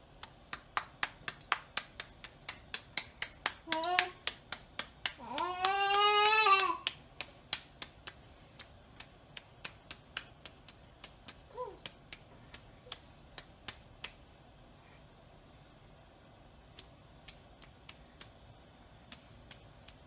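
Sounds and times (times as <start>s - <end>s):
hands patting dough: 0.0s - 14.4s, 16.6s - 20.0s.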